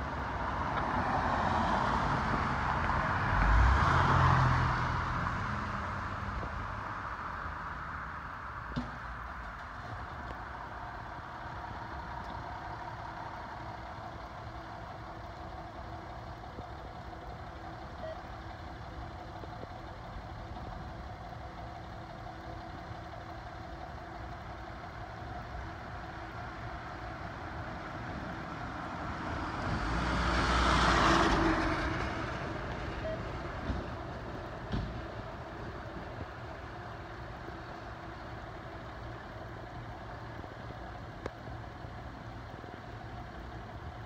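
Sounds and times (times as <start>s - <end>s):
fire engine idling: 6.4s - 29.8s, 31.4s - 44.0s.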